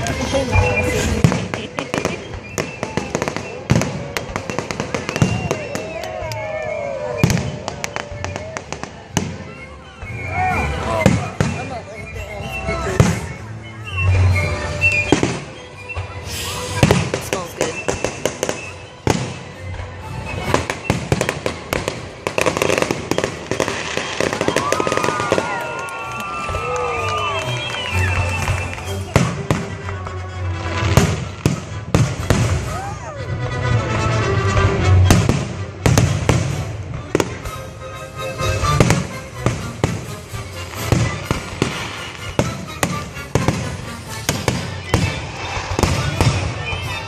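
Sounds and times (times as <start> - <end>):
fireworks bangs and crackling: 0.0 - 47.0
music playing: 0.0 - 47.0.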